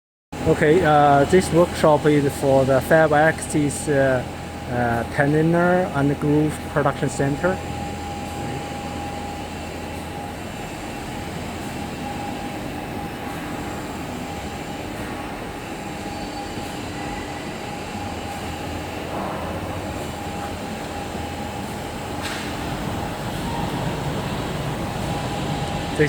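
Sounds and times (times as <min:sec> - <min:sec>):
high machine whine: 0:00.4 - 0:26.0
woodworking machinery humming: 0:00.4 - 0:26.0.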